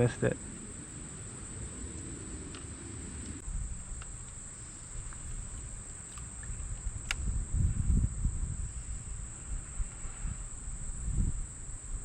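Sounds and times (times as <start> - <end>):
insects droning: 0.0 - 12.0
low rumble on microphone: 0.0 - 12.0.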